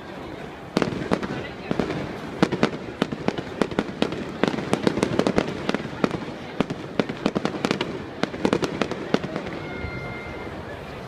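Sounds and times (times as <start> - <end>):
fireworks cracking: 0.6 - 10.3.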